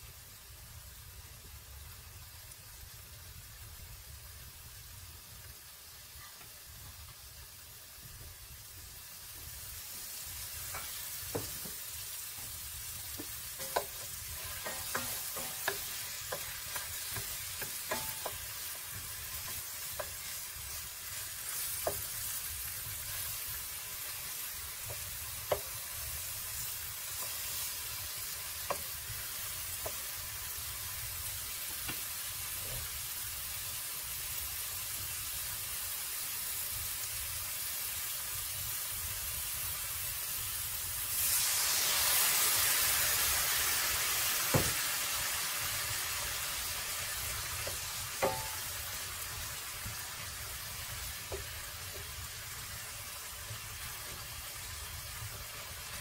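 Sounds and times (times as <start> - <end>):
apple slices sizzling in a pan: 0.0 - 56.0.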